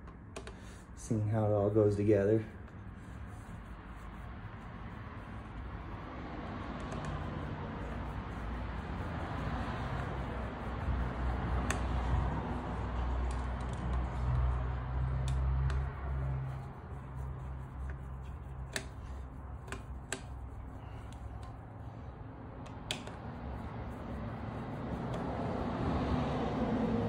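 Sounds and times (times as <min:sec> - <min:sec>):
low hum: 0:02.4 - 0:27.0.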